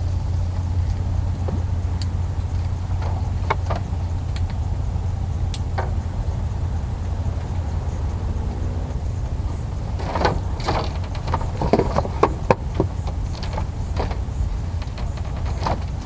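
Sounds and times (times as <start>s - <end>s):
steady low drone: 0.0s - 16.0s
light clicks and ticks: 0.8s - 16.0s.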